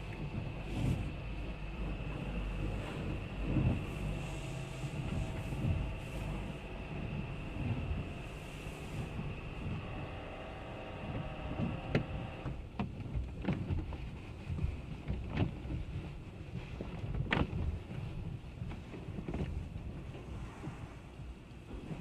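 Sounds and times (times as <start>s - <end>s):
muffled car wash rumble: 0.0s - 22.0s.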